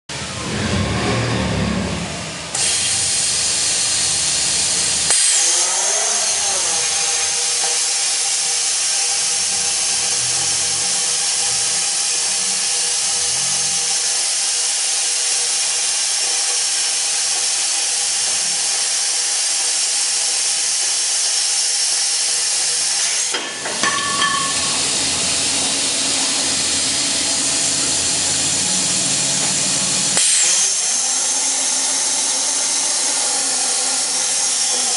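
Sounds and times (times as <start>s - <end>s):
plasma torch hissing: 2.5s - 34.9s.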